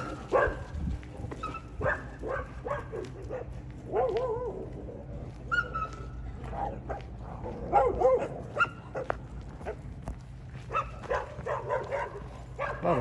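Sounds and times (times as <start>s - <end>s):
dogs barking and yelping: 0.0s - 9.9s, 10.6s - 13.0s.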